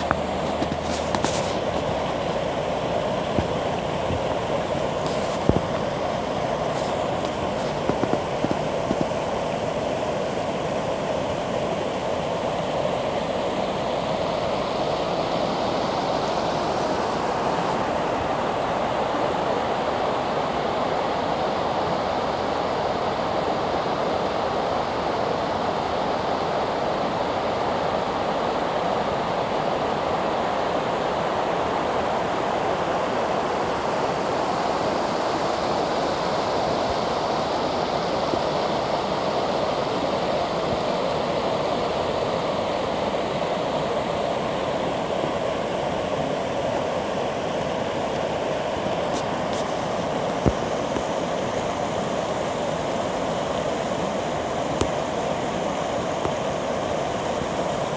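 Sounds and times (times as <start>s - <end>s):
river rushing over rapids: 0.0s - 57.9s.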